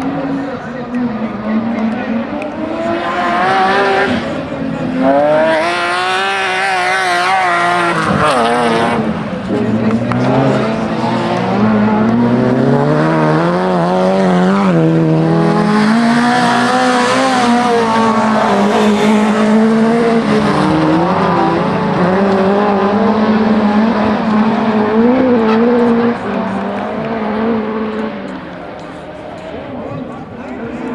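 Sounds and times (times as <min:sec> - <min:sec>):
race car engines revving: 0:00.0 - 0:30.9.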